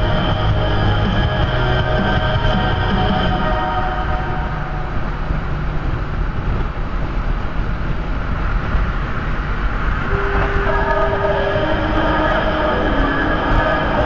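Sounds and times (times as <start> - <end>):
car engine hum: 0.0 - 14.0
road and tyre noise: 0.0 - 14.0.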